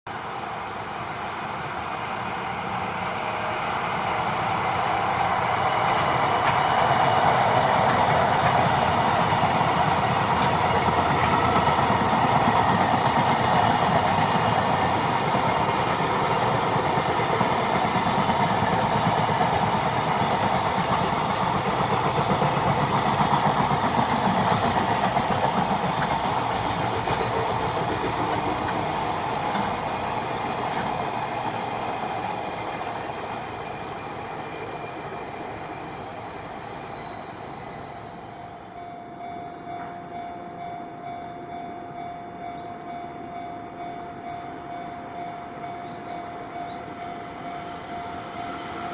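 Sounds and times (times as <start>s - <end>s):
freight train wagons clattering: 5.4s - 48.9s.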